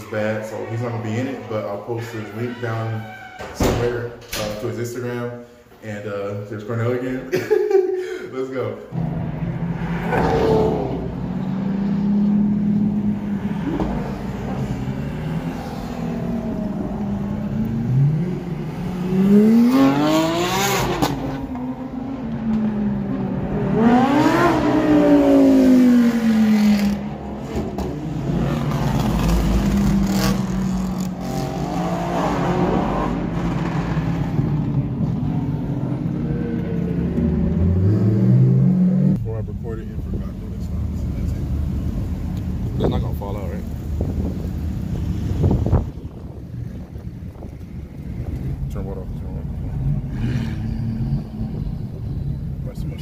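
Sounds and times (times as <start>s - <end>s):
car engines revving past: 8.9s - 53.0s.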